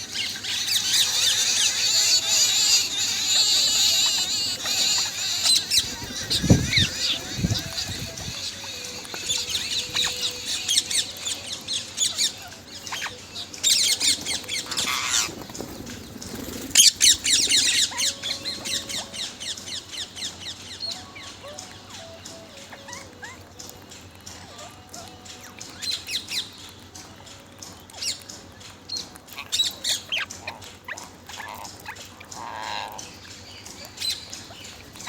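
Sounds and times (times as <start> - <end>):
parrots chattering and squawking: 0.0 - 35.0.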